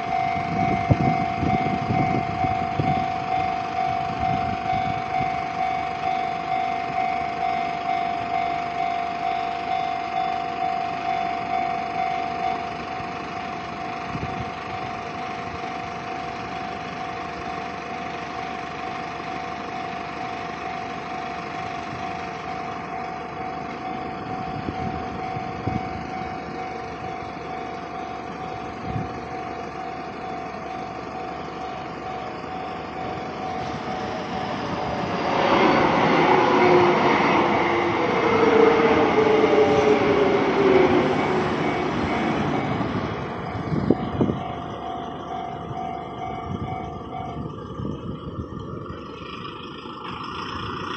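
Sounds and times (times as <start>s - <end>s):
level crossing alarm ringing: 0.0s - 50.9s
train passing with falling whine: 0.0s - 50.9s.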